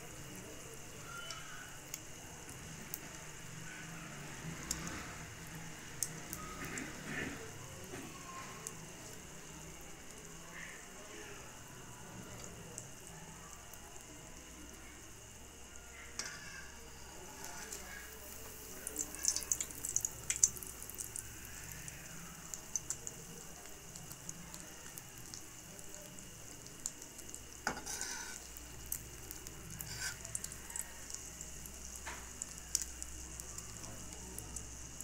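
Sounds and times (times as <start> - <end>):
bread frying in a pan: 0.0 - 35.0.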